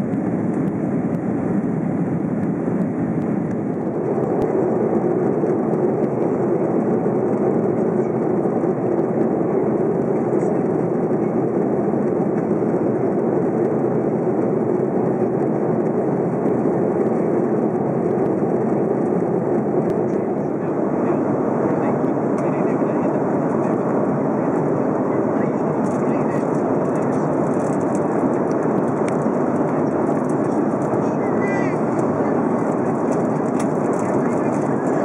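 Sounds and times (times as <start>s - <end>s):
air rushing along fuselage: 0.0s - 35.0s
jet engines droning: 0.0s - 35.0s.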